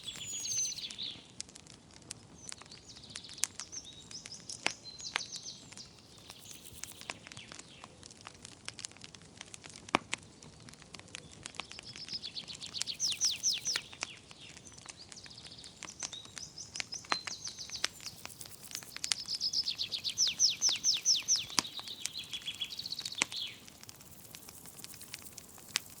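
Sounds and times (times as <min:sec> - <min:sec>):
songbirds singing trills: 0:00.0 - 0:01.3, 0:02.4 - 0:07.9, 0:11.2 - 0:26.0
wood fire crackling and popping: 0:00.0 - 0:26.0.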